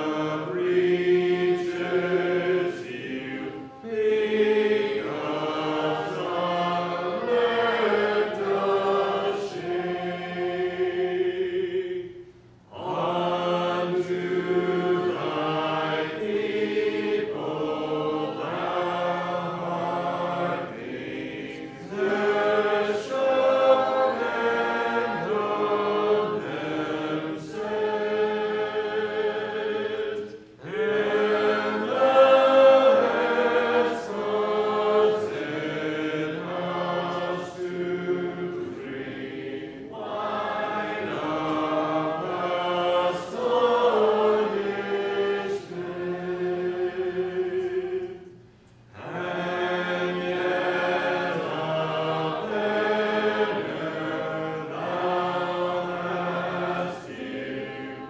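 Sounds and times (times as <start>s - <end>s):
congregation singing: 0.0s - 58.0s.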